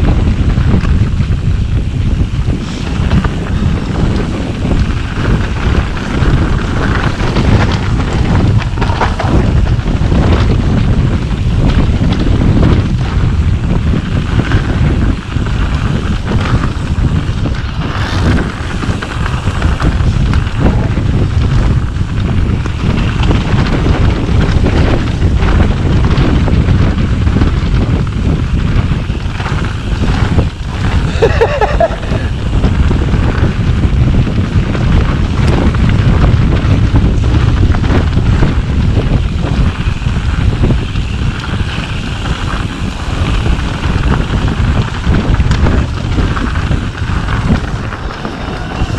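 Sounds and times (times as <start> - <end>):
bike rattling and knocking: 0.0 - 48.9
tyres rumbling on dirt: 0.0 - 48.9
wind buffeting microphone: 0.0 - 48.9.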